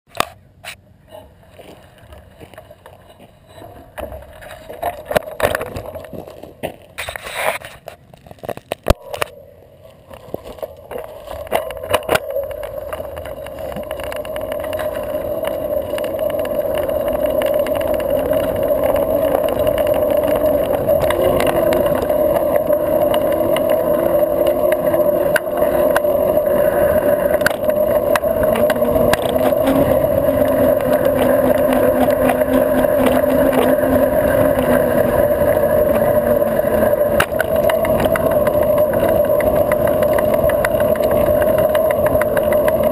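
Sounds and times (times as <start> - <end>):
bike tyre and drivetrain hum: 0.1 - 42.9.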